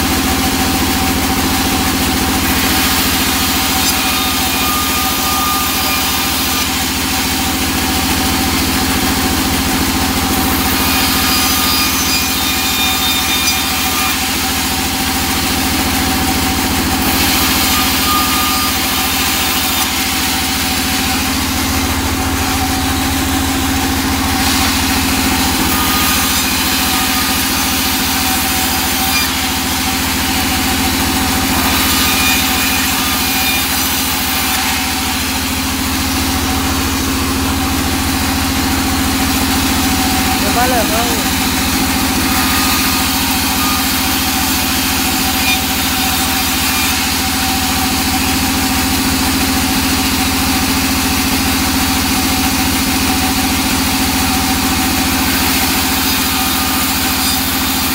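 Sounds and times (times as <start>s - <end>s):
band saw motor hum: 0.0s - 57.9s
saw blade ripping wood: 0.0s - 57.9s.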